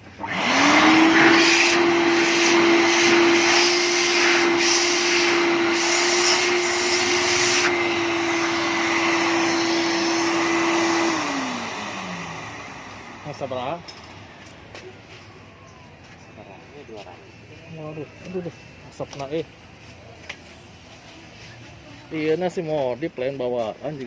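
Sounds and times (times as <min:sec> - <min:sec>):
vacuum cleaner motor whining: 0:00.0 - 0:19.4.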